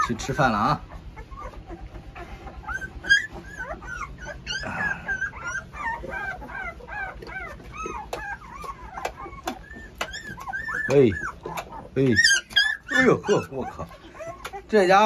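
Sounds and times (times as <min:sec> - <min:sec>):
puppies whimpering and squealing: 0:00.0 - 0:15.0.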